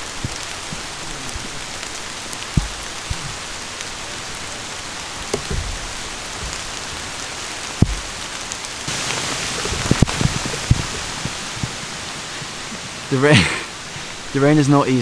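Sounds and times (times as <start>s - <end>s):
dull low thumps: 0.0s - 14.3s
heavy rain falling: 0.0s - 15.0s.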